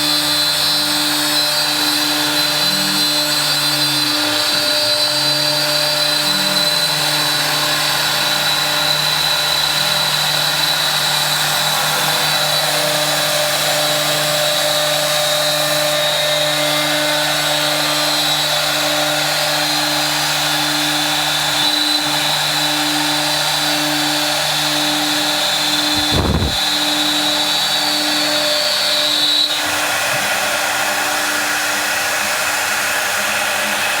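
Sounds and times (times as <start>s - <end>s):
woodworking power tool whining: 0.0s - 34.0s.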